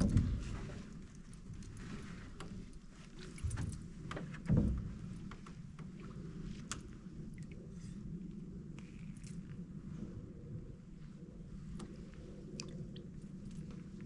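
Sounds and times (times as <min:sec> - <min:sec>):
light clicks and creaks: 0:00.0 - 0:09.7, 0:11.6 - 0:14.0.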